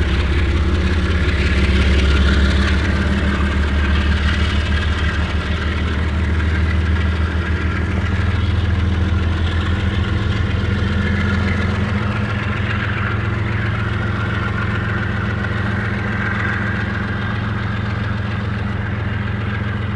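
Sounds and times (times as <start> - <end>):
diesel locomotive engine pulsing: 0.0 - 19.9.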